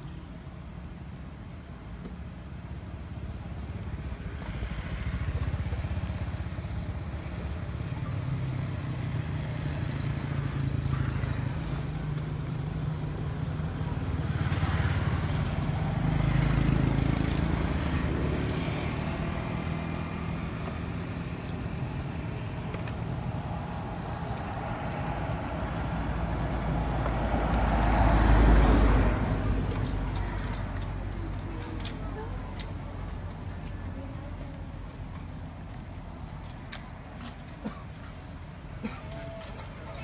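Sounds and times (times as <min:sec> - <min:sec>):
vehicle engine rumble: 0:00.0 - 0:40.0.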